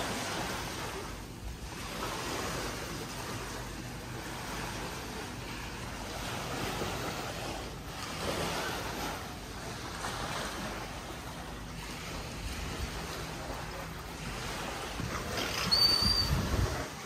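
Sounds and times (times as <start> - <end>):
low steady rumble: 0.0 - 17.0
sea waves washing and breaking: 0.0 - 17.0.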